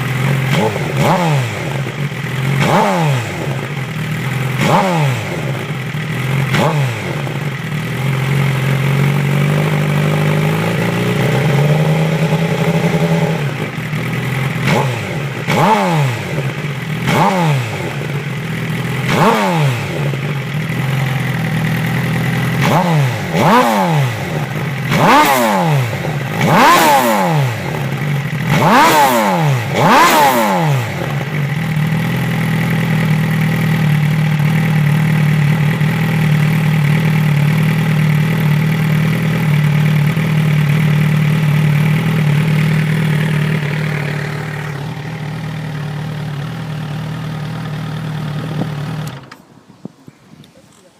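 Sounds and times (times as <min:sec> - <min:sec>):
engine revving and idling: 0:00.0 - 0:49.4.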